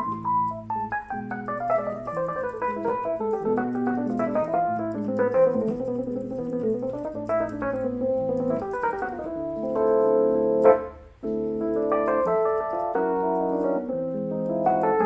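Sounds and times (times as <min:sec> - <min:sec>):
keyboard playing piano notes: 0:00.0 - 0:15.0.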